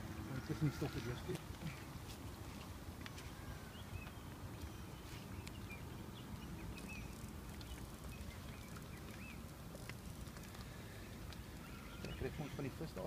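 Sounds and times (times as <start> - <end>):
small birds chirping: 0.3 - 13.0.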